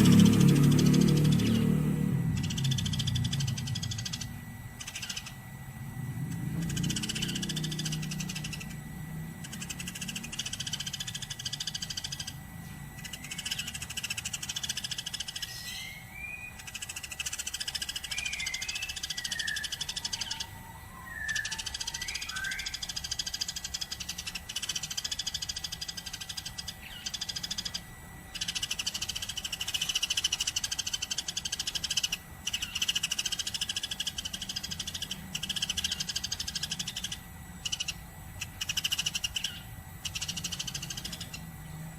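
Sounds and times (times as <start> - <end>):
sparrow chirping chatter: 0.0 - 41.9.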